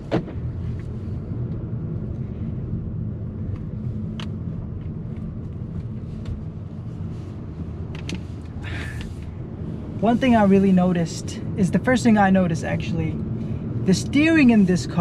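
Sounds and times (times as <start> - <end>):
car engine humming: 0.0 - 15.0
road noise: 0.0 - 15.0.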